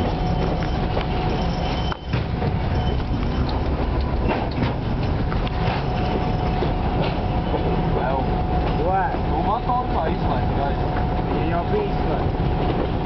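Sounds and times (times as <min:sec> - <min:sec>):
diesel engine running: 0:00.0 - 0:13.0
wheels on rails: 0:00.0 - 0:13.0.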